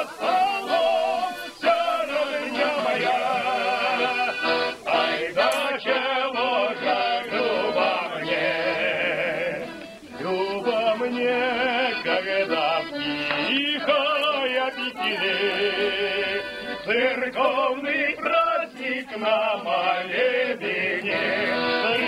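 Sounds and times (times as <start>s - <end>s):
men singing folk song: 0.0s - 22.0s.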